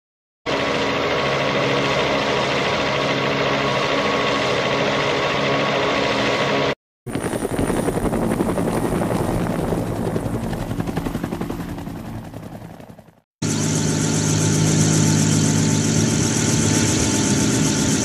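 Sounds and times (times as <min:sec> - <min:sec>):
helicopter engine and rotors: 0:00.5 - 0:18.0.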